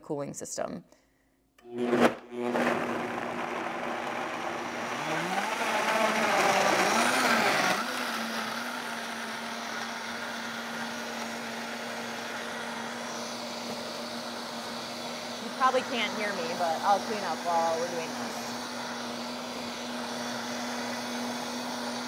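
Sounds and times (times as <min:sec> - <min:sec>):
blender whirring: 0:01.6 - 0:22.0.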